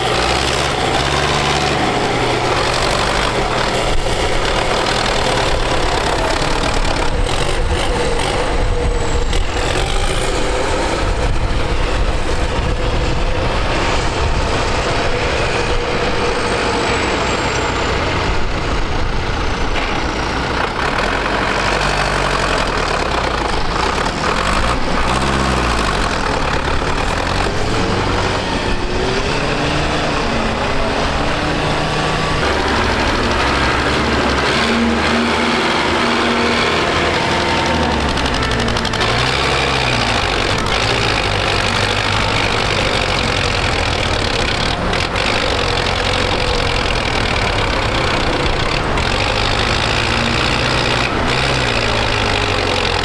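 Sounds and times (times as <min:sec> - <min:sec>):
tractor diesel engines revving: 0:00.0 - 0:53.0.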